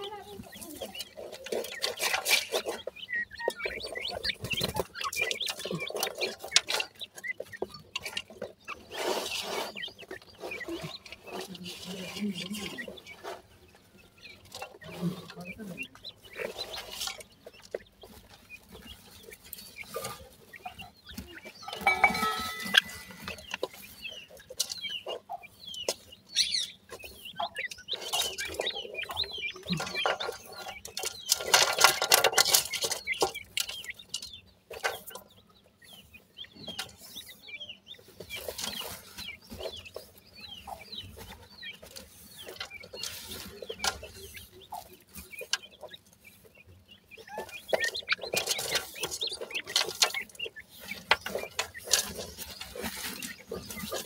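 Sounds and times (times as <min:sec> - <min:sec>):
chicks cheeping: 0:00.0 - 0:54.0
scratching in dry soil: 0:00.0 - 0:54.0.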